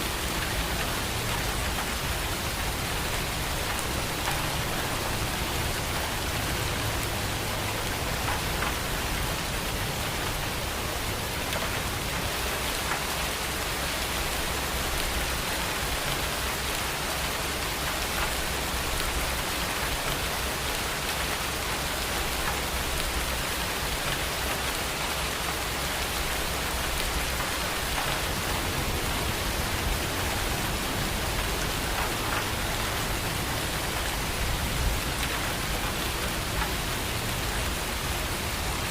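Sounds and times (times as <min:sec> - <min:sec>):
heavy rain hiss: 0:00.0 - 0:38.9.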